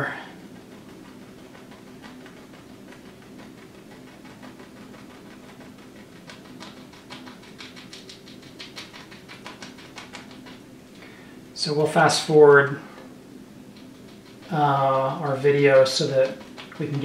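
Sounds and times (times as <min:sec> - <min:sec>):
brush dabbing paint on canvas: 0:00.0 - 0:10.8, 0:13.6 - 0:17.0.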